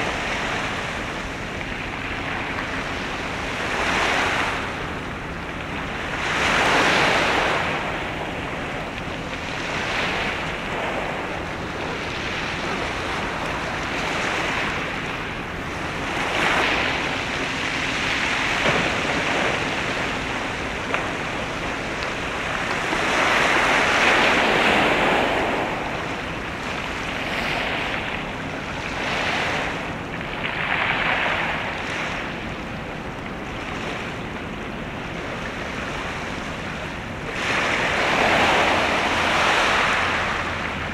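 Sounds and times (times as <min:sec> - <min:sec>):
waves washing against shore: 0:00.0 - 0:40.9
wind: 0:00.0 - 0:40.9.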